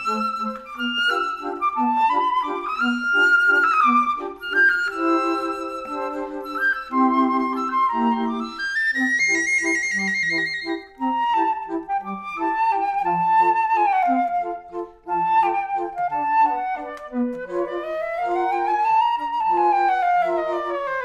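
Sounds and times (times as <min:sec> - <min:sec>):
instrumental music with sliding melody: 0:00.0 - 0:21.0.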